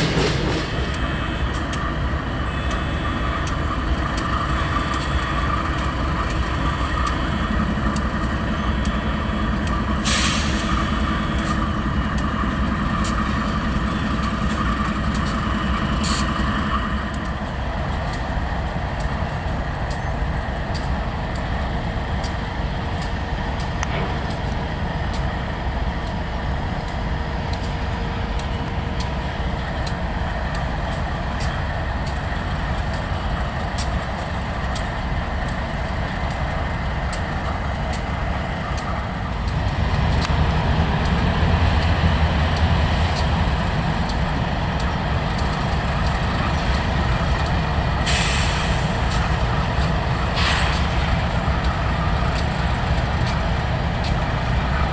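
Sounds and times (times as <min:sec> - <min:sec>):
freight train rumbling past: 0:00.0 - 0:54.9
train wheels clicking: 0:00.0 - 0:54.9.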